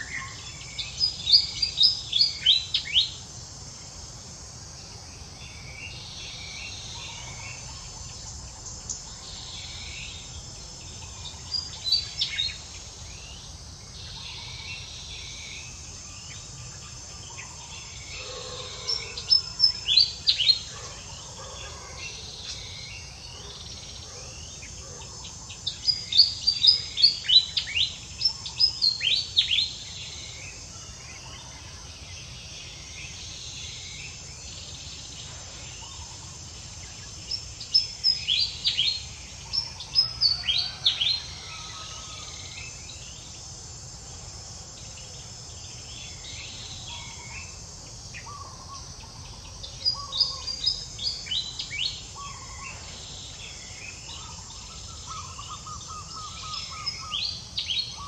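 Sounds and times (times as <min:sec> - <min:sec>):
insects hissing: 0:00.0 - 0:58.0.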